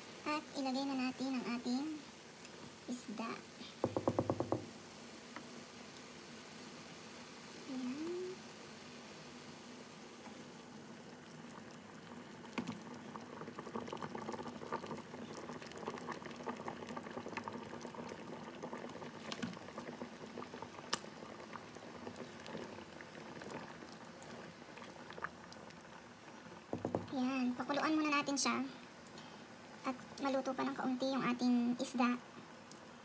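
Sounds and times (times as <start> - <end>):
broth boiling and bubbling: 0.0 - 33.0.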